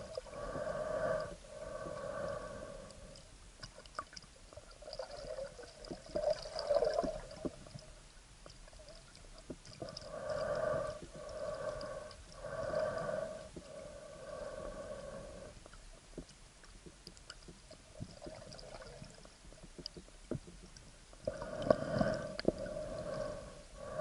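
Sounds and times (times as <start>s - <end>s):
water sounds: 0.0s - 24.0s.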